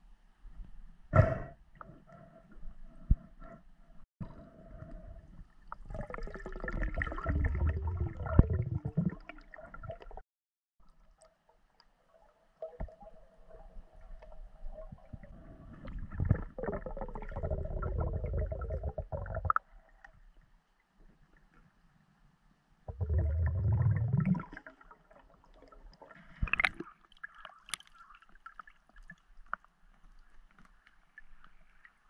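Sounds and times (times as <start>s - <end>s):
underwater gurgling and bubbles: 1.2s - 10.2s, 10.8s - 21.8s, 22.9s - 32.0s.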